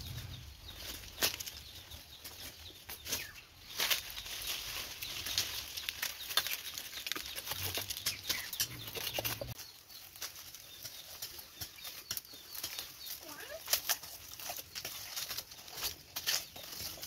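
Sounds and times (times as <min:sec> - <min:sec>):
dry palm fibre crackling and tearing: 0:00.8 - 0:17.0.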